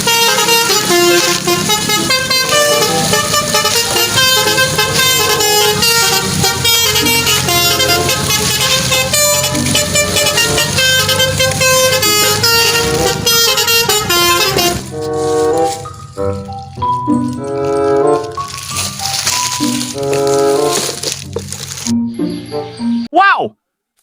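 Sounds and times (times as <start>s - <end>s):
vehicle horns honking: 0.0s - 21.3s
road traffic: 0.0s - 23.3s.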